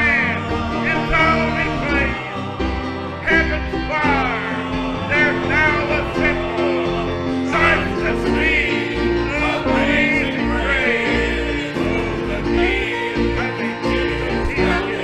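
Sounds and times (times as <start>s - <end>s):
gospel singing: 0.0s - 15.0s
sustained chords: 0.0s - 15.0s.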